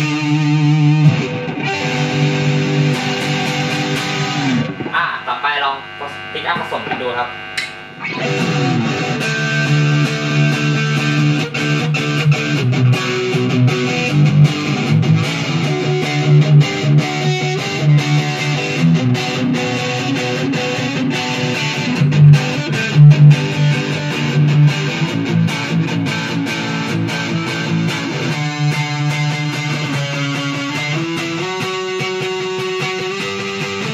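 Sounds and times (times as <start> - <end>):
distorted electric guitar riff: 0.0 - 33.9.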